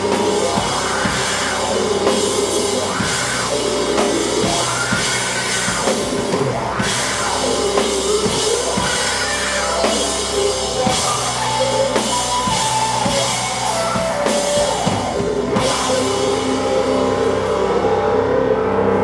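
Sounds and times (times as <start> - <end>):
drum kit with cymbals: 0.0 - 18.5
electric guitar and bass: 0.0 - 19.0.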